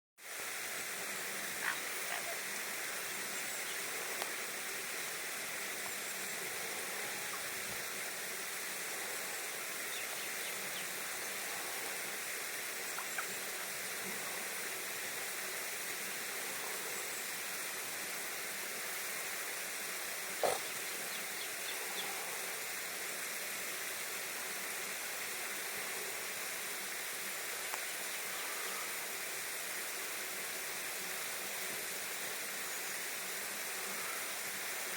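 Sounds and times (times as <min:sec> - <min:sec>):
rushing hiss of outdoor ambience: 0:00.2 - 0:34.9.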